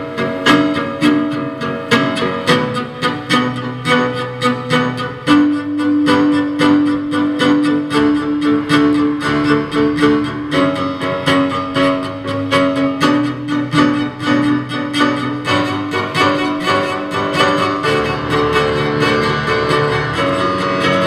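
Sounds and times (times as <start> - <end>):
bowed cello and violin: 0.0 - 21.0
piano repeated notes: 0.0 - 21.0.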